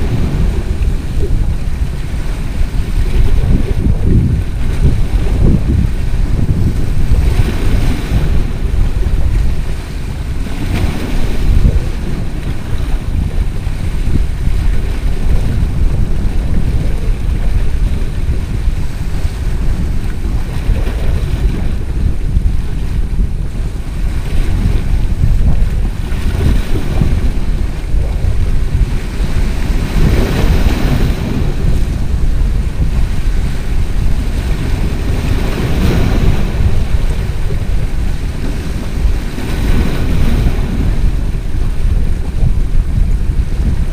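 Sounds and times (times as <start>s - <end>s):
waves splashing against rocks: 0.0s - 43.9s
wind buffeting microphone: 0.0s - 43.9s.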